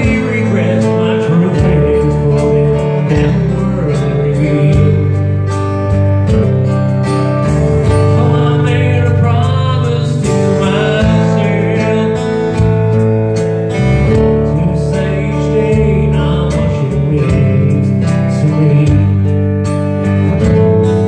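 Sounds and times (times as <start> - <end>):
acoustic guitar strummed and picked: 0.0 - 21.0
man singing a country ballad: 0.0 - 21.0.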